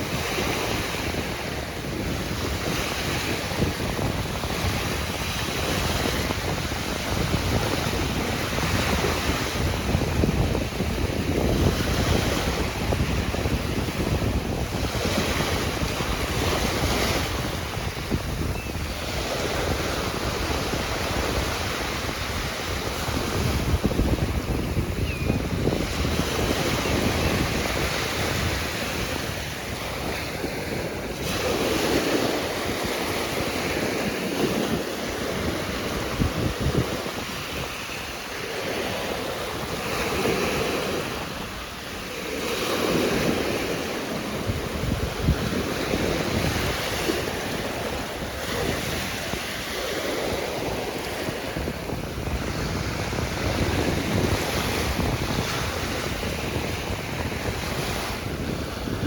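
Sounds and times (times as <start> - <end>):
ocean surf washing ashore: 0.0 - 59.0
wind rumbling on microphone: 0.0 - 59.0.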